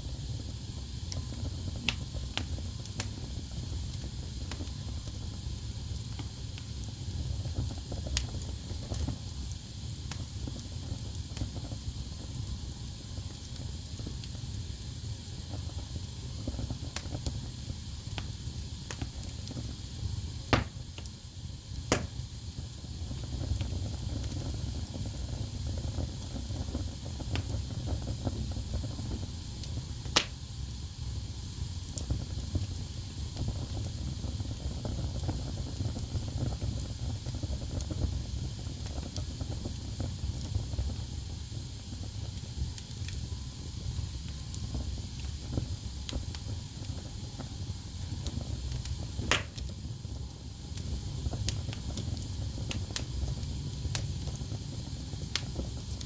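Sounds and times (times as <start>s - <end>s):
wood fire crackling: 0.0s - 56.0s
sharp pops of fire: 0.1s - 30.8s, 31.5s - 56.0s.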